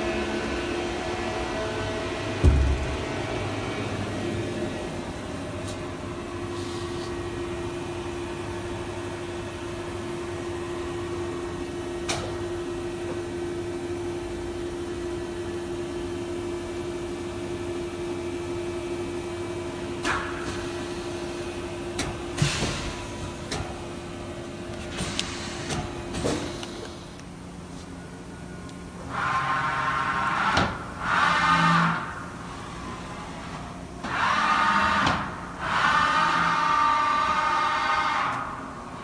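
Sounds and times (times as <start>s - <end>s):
machining center humming: 0.0s - 39.0s.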